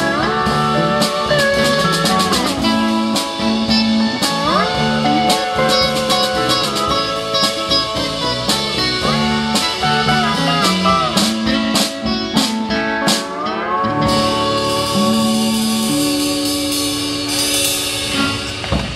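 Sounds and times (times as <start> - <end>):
lead guitar bending notes: 0.0 - 18.9
stepping low bass notes: 0.0 - 18.9.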